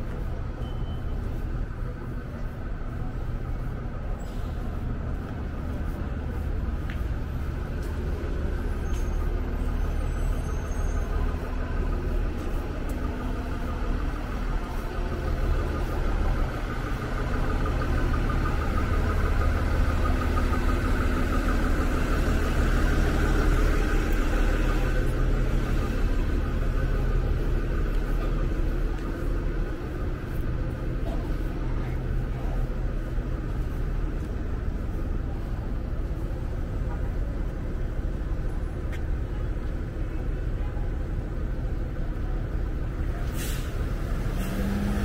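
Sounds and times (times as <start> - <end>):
bus engine idling: 0.0 - 45.0
street traffic: 0.0 - 45.0.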